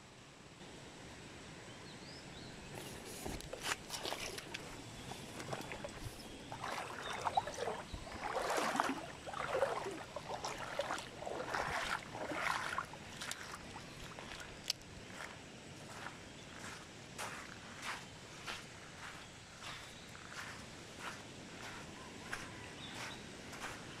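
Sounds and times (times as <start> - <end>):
splashing footsteps in stream: 2.8 - 24.0.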